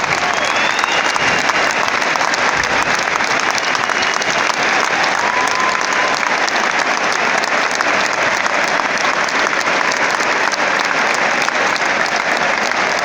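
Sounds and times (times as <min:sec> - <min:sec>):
stadium crowd applauding: 0:00.0 - 0:13.0.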